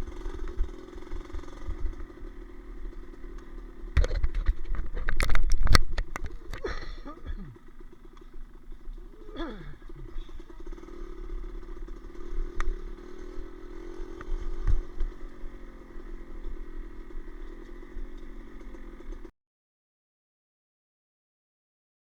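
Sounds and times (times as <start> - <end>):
engine running: 0.0 - 19.3.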